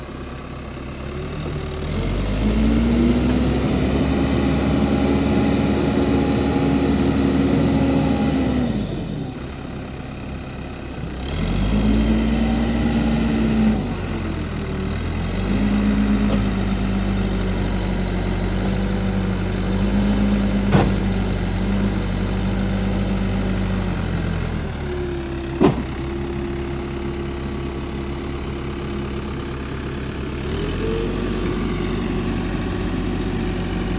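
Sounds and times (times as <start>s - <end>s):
diesel engine revving: 0.8s - 10.3s, 11.1s - 33.9s.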